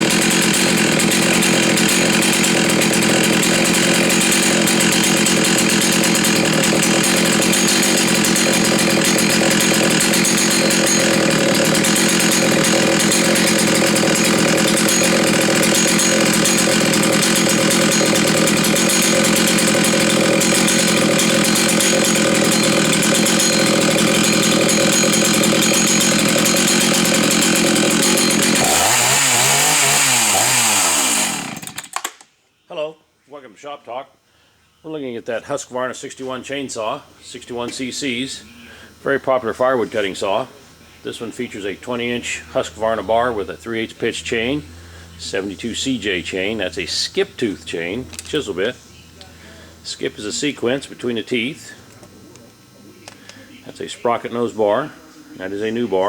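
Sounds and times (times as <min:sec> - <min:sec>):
chainsaw engine running: 0:00.0 - 0:32.2, 0:36.8 - 0:48.8, 0:49.6 - 0:56.0.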